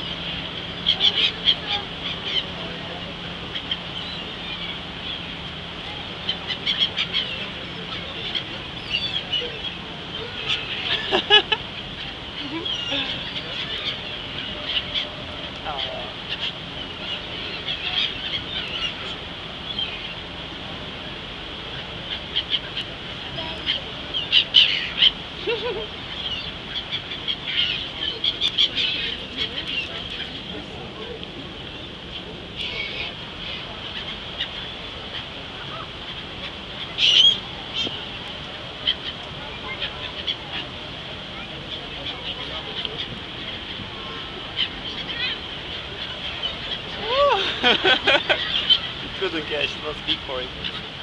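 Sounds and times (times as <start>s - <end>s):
seagulls calling: 0.0s - 20.3s, 21.6s - 51.0s
boat engine humming: 0.0s - 51.0s.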